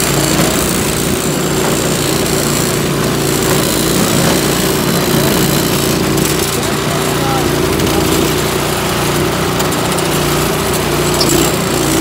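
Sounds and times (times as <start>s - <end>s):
snow blower engine running: 0.0s - 12.0s.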